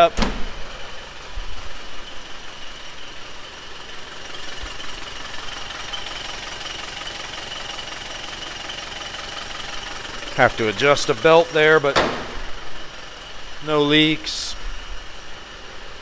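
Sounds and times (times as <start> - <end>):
diesel engine idling: 0.0 - 16.0
high belt whine: 0.8 - 16.0.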